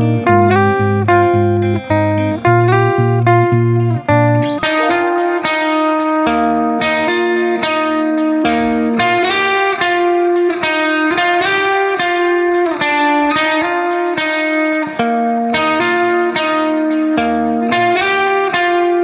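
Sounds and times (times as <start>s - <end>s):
guitar plucking notes and chords: 0.0s - 19.0s.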